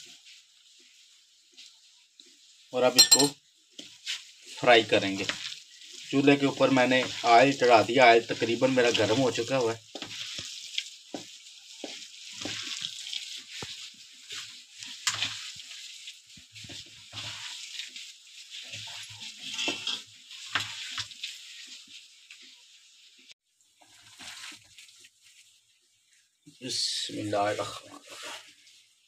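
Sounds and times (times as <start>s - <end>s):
batter squelching in a steel bowl: 0.0s - 29.0s.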